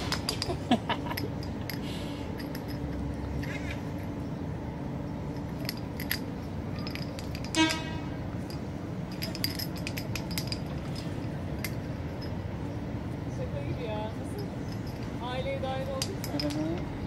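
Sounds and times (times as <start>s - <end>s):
light clicks and clinks: 0.0s - 4.2s, 5.3s - 12.6s, 14.2s - 17.0s
outdoor background hum: 0.0s - 17.0s.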